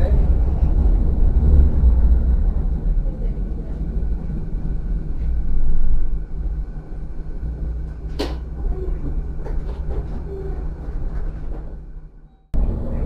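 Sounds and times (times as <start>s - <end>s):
low hum: 0.0s - 13.0s
tram interior rumble: 0.0s - 13.0s.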